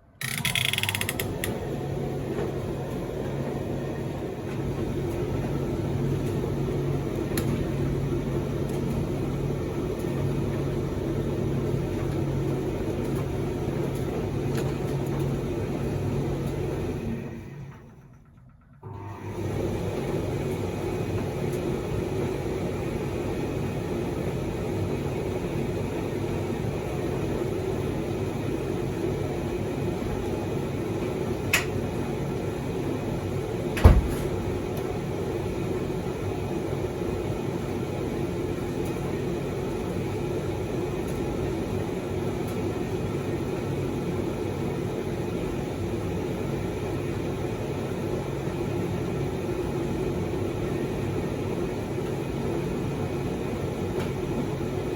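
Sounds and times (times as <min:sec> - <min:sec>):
tumble dryer humming: 0:00.0 - 0:18.1, 0:18.8 - 0:54.9.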